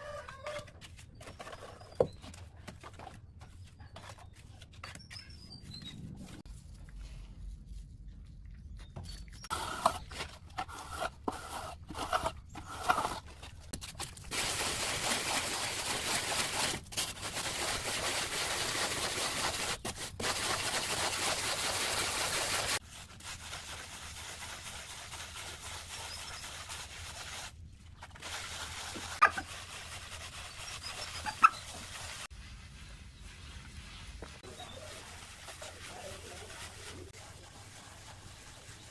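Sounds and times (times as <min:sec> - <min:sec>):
sponge scrubbing cement render: 0:00.1 - 0:06.6, 0:09.4 - 0:38.9.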